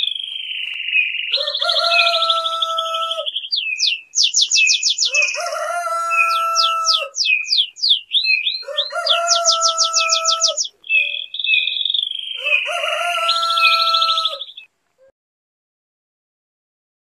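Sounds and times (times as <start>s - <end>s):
birds chirping: 0.0s - 15.1s.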